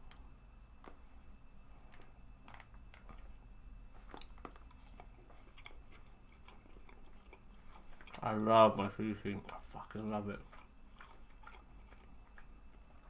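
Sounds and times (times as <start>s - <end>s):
chewing clicks and crunches: 1.7s - 13.0s.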